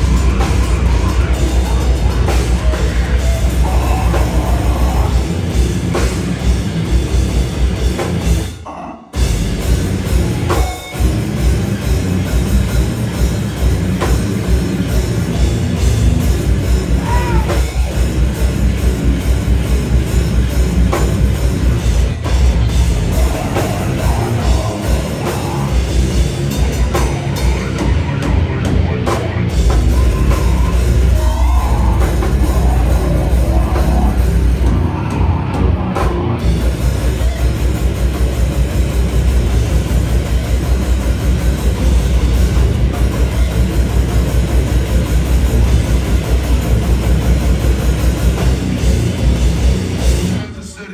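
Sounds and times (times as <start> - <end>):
fast drumming: 0.0 - 8.6, 9.2 - 50.5
distorted guitars and bass: 0.0 - 50.9
metal vocals: 0.0 - 50.9.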